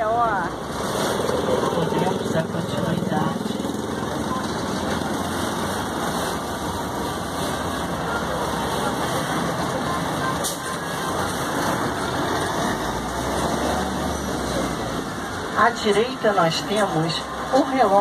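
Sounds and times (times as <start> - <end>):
road train engine running: 0.0 - 18.0.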